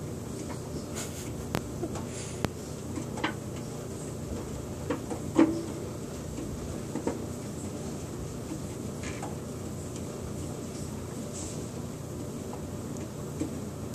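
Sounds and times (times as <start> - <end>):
washing machine drum humming: 0.0 - 13.9.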